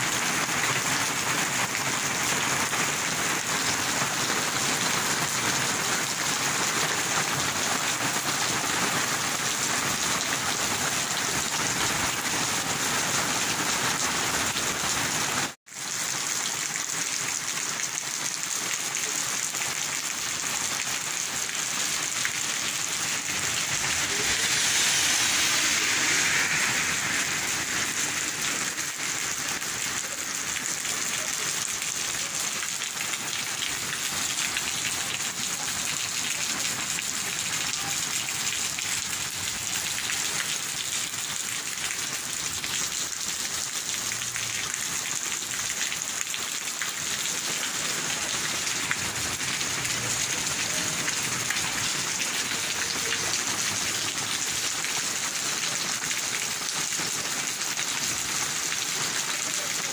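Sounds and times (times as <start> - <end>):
rain on paved street: 0.0 - 59.9.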